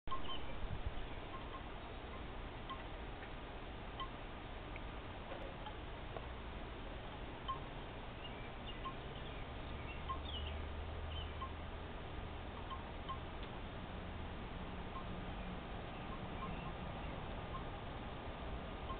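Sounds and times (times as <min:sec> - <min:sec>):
low steady rumble: 0:00.1 - 0:18.9.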